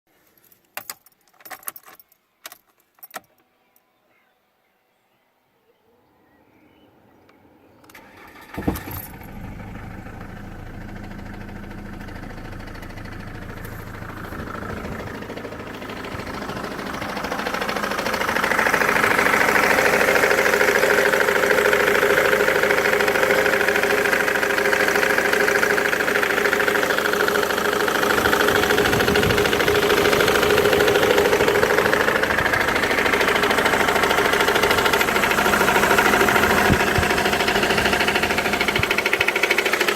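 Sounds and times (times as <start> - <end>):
diesel engine starting and running: 7.9 - 39.9
loud steady engine noise: 7.9 - 39.9.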